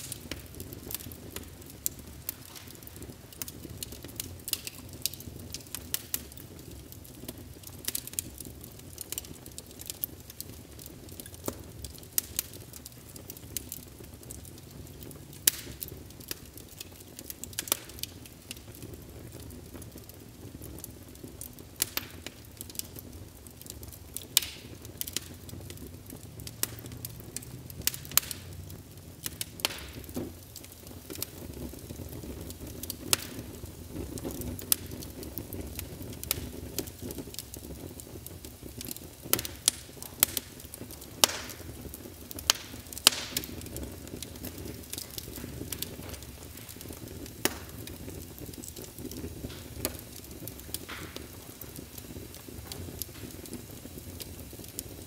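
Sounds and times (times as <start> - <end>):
fire popping and snapping: 0.0 - 55.0.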